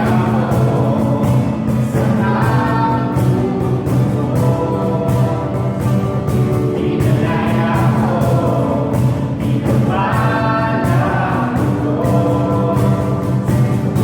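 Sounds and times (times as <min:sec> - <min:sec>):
instrumental backing: 0:00.0 - 0:14.0
voices singing together: 0:00.0 - 0:14.0.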